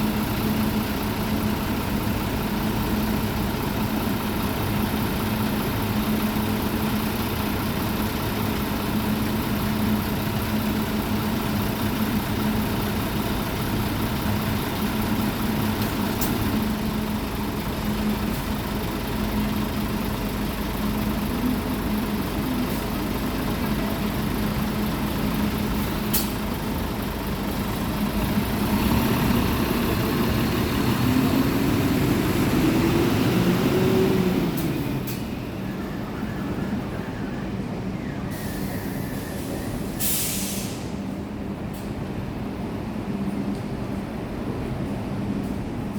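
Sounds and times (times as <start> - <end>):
bus diesel engine idling: 0.0 - 45.9.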